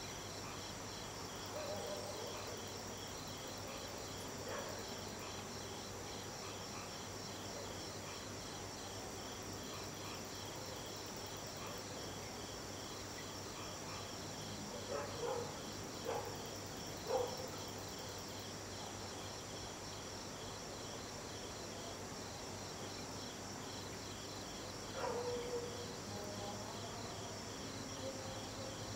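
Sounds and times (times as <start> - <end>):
night insects chirping: 0.0 - 28.9.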